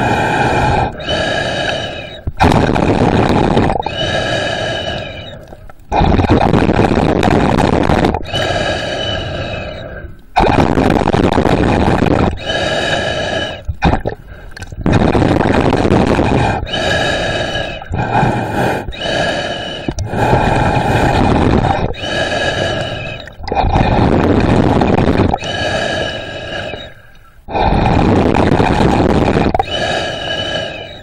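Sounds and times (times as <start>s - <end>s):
breathing through snorkel tube: 0.0s - 31.0s.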